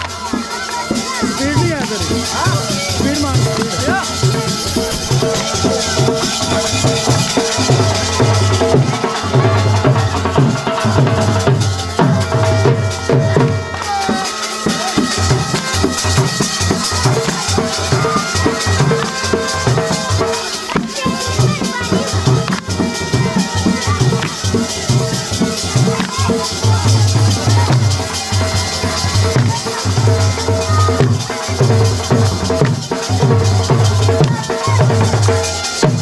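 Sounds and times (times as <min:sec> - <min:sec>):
dhol drumming: 0:00.0 - 0:36.0
rattling shaker percussion: 0:00.0 - 0:36.0.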